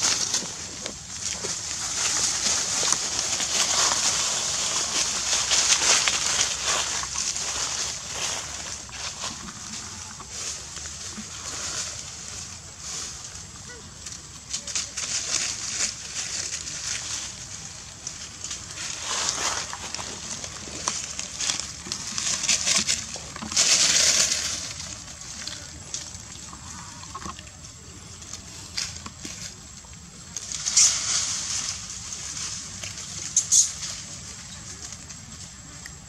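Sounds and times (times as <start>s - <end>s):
dry leaves rustling and crackling: 0.0s - 36.0s.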